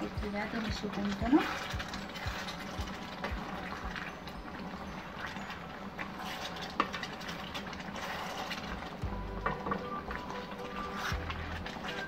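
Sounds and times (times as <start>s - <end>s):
sauce bubbling and crackling: 0.0s - 12.0s
wooden spoon stirring: 0.0s - 12.0s.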